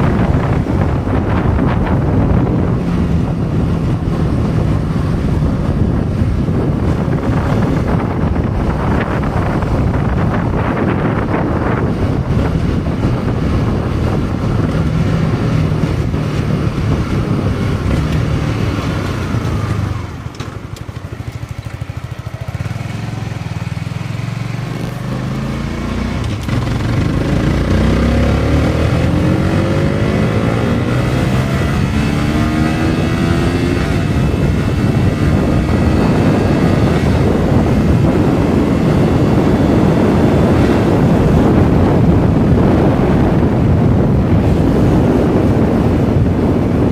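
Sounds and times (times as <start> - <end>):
motorcycle engine: 0.0 - 46.9
wind rushing over microphone: 0.0 - 46.9.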